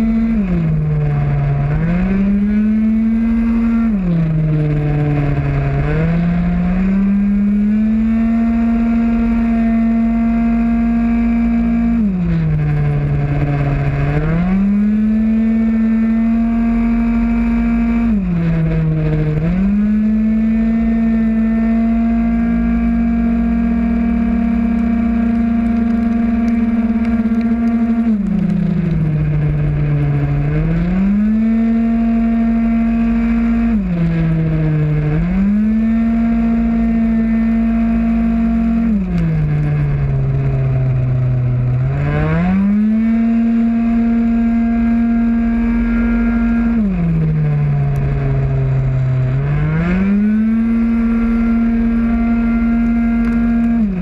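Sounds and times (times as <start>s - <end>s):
scooter engine at full throttle: 0.0s - 54.0s.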